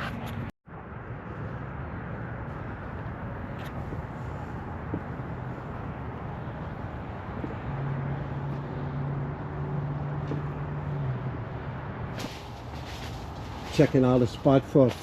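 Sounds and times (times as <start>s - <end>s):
distant traffic rush: 0.0s - 15.0s.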